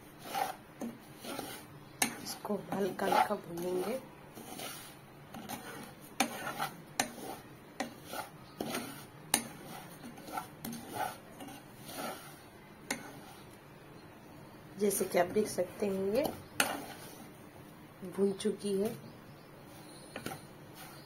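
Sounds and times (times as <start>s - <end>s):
spatula scraping a pan: 0.0s - 13.6s, 14.9s - 17.4s, 19.7s - 21.0s.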